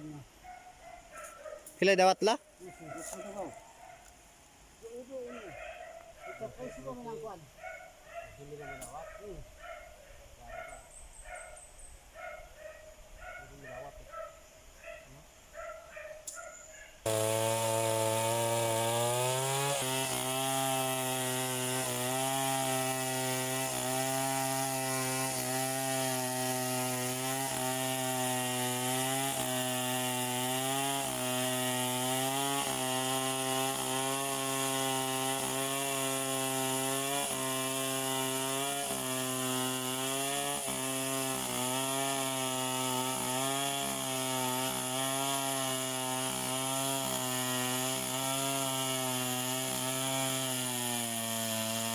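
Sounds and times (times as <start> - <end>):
chainsaw cutting wood: 1.1 - 4.2, 4.8 - 7.5, 8.4 - 9.9, 16.2 - 51.9.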